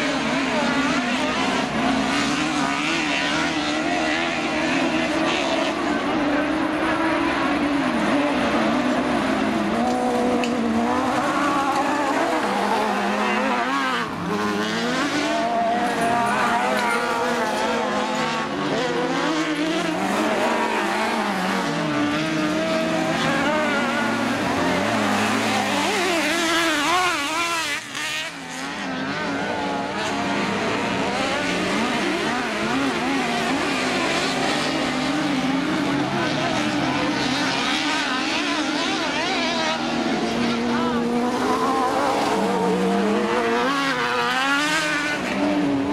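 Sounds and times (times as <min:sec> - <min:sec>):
racing car engines: 0:00.0 - 0:45.9.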